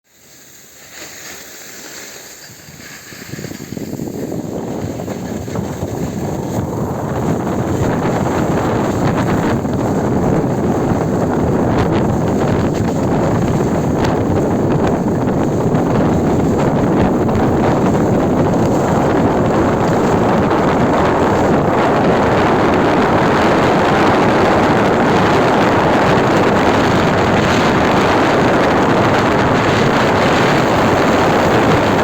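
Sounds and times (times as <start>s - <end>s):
wind buffeting microphone: 2.5s - 32.0s.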